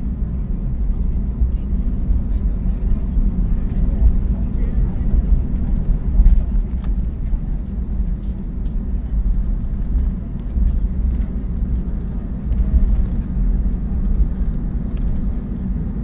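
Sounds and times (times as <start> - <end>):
aircraft engine noise: 0.0 - 16.0
wheels rumbling: 0.0 - 16.0.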